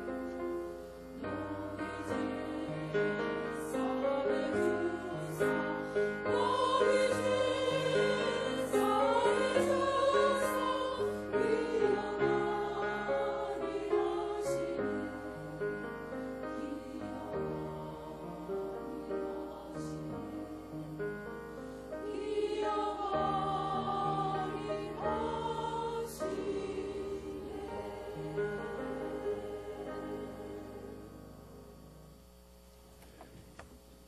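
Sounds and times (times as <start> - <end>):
women's choir singing a hymn: 0.0 - 31.4
sustained accompaniment: 0.0 - 32.2.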